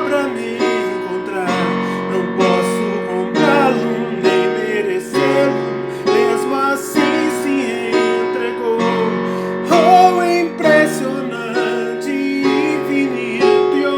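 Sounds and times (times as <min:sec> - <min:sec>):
electronic keyboard music: 0:00.0 - 0:13.9.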